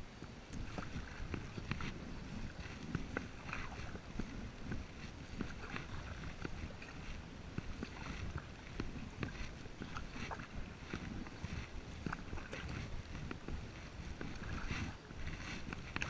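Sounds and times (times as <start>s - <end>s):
paddle dipping into water: 0.2s - 16.0s.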